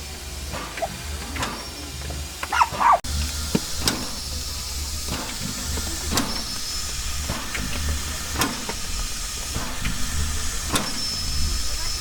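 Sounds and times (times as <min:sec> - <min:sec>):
hiss of steam: 0:00.0 - 0:12.0
low pulsing rumble: 0:00.0 - 0:12.0.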